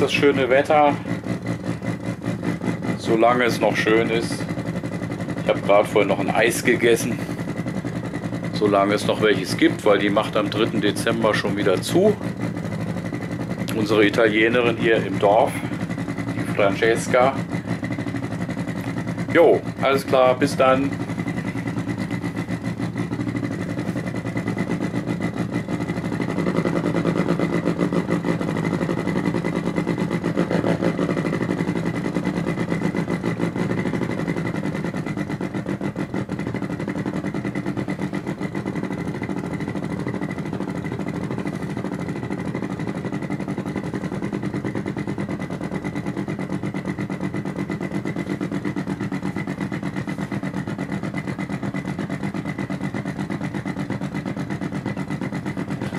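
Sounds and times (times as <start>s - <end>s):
pulsing synthetic engine hum: 0.0s - 55.9s.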